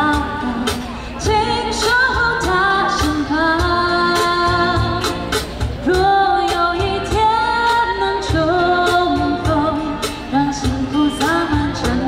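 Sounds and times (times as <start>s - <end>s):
band with steady drum beat: 0.0s - 12.0s
woman singing pop melody: 0.0s - 12.0s.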